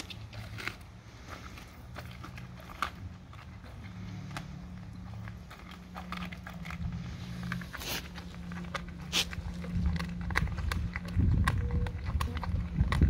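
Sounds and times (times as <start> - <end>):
dog chewing bones: 0.0 - 13.0
steady low hum: 0.0 - 13.0.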